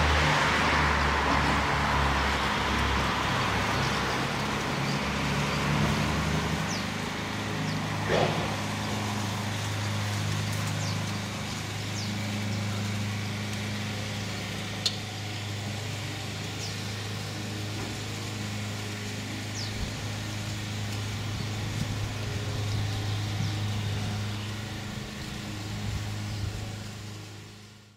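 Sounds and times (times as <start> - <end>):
birds chirping: 0.0 - 27.6
motor humming: 0.0 - 27.9.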